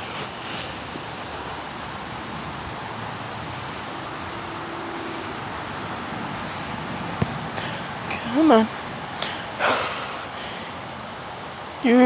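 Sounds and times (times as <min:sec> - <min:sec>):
outdoor hiss with low rumble: 0:00.0 - 0:12.0.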